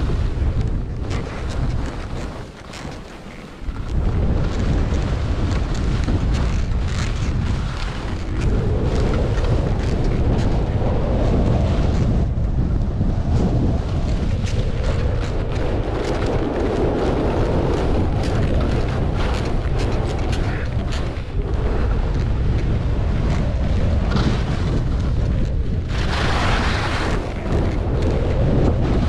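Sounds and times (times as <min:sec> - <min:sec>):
wind buffeting microphone: 0:00.0 - 0:29.0
ski edges scraping snow: 0:01.0 - 0:10.5, 0:13.9 - 0:29.0
skidding scrape on snow: 0:01.1 - 0:10.8, 0:13.4 - 0:29.0.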